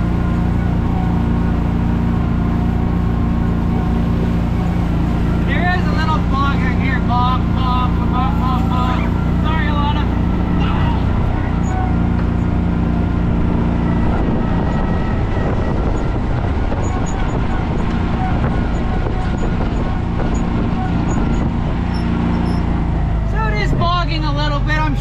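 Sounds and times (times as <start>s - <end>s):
utility vehicle engine running: 0.0s - 25.0s.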